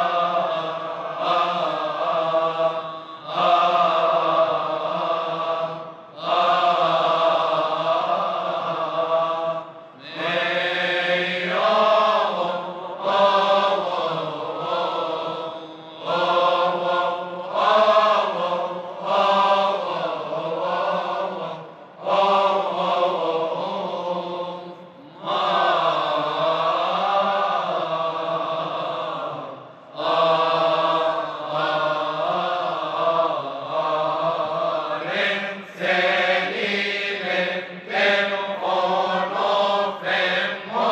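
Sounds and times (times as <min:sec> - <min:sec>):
men chanting a hymn: 0:00.0 - 0:40.9.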